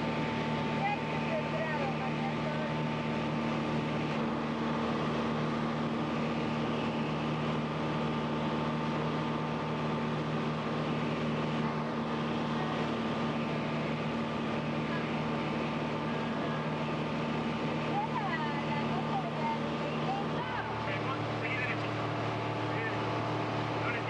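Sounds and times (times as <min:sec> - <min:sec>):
aircraft engine drone: 0:00.0 - 0:24.0
high propeller whine: 0:00.0 - 0:24.0.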